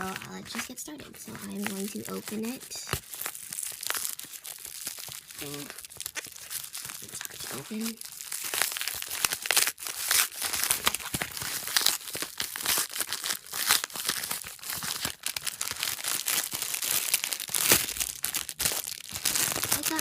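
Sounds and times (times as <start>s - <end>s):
packaging crinkling and tearing: 0.0s - 20.0s.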